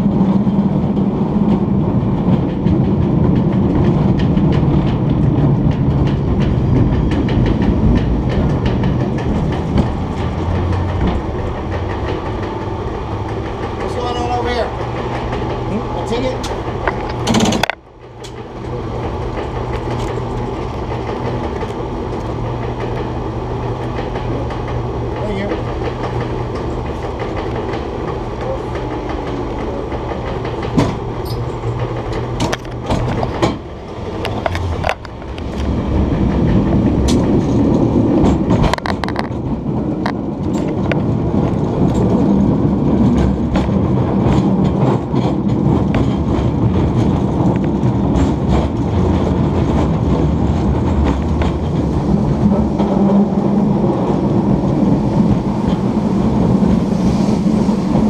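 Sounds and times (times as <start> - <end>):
cable car rumbling on rails: 0.0 - 58.0.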